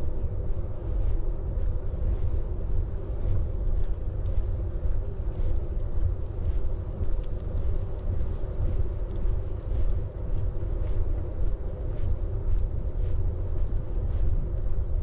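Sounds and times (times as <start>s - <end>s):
faint hum: 0.0s - 15.0s
wind buffeting microphone: 0.0s - 15.0s.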